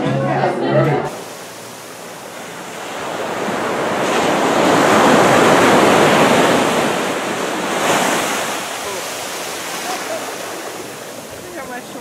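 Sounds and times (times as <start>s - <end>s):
small ocean waves breaking: 1.1s - 12.0s.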